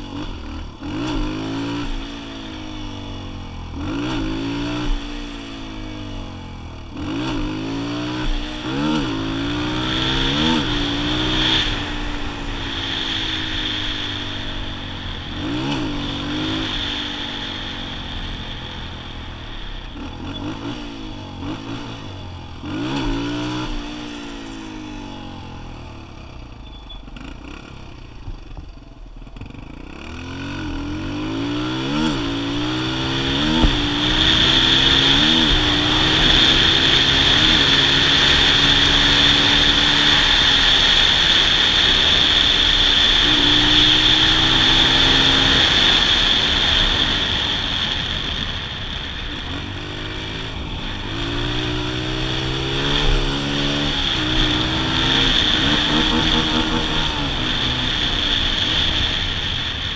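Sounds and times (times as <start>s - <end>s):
dirt bike engine revving: 0.0s - 28.2s, 29.3s - 59.9s.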